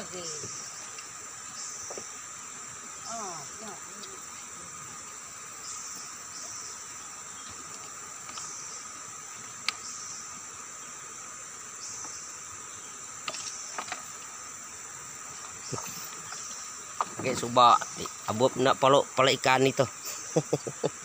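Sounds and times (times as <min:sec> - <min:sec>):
insects shrill chorus: 0:00.0 - 0:21.0.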